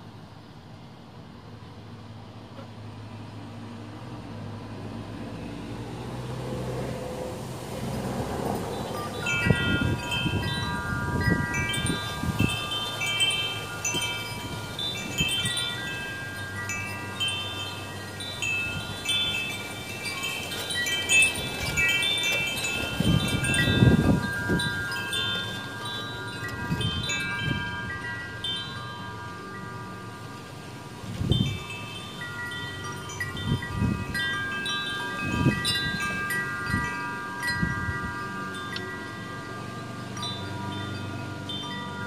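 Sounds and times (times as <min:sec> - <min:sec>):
wind chimes ringing: 0:07.6 - 0:42.0.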